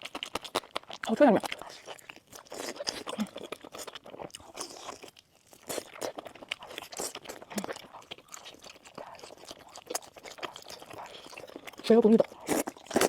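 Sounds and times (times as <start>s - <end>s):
crunchy bites: 0.0s - 13.0s
wet chewing: 0.0s - 13.0s.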